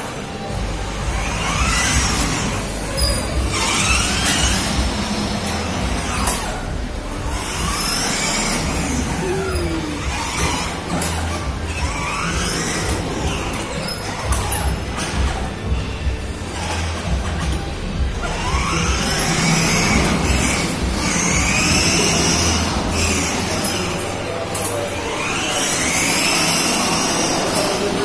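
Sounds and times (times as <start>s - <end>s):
toy car motor hum: 1.1s - 15.4s, 18.2s - 28.0s.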